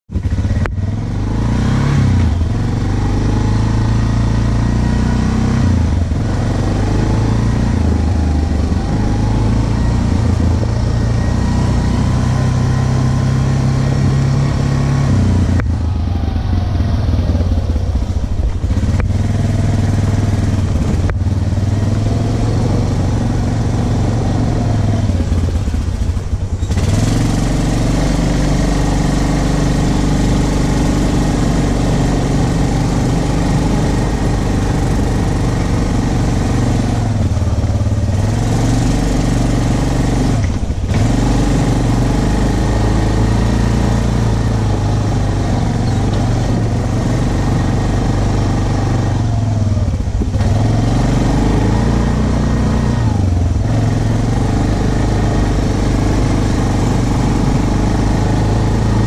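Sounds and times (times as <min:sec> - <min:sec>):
quad bike engine revving: 0:00.1 - 0:59.0.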